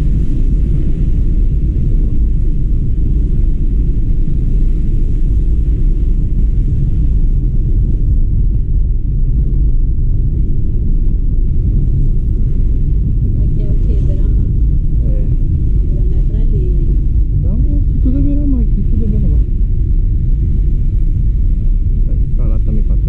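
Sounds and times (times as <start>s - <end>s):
moving car rumble: 0.0s - 23.0s
road and wind noise: 0.0s - 23.0s.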